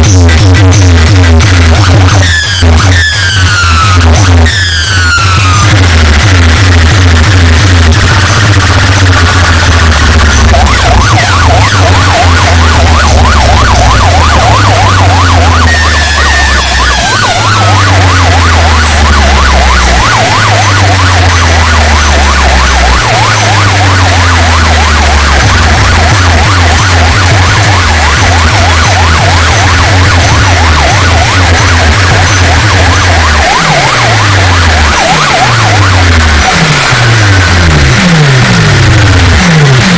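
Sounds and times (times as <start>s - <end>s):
heavy bass notes: 0.0s - 39.9s
repeating siren wail: 0.0s - 39.9s.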